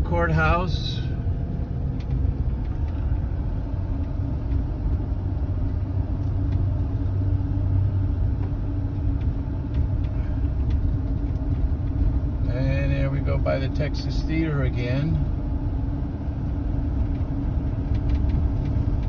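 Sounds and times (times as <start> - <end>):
diesel engine rumble: 0.0 - 19.0
road noise: 0.0 - 19.0.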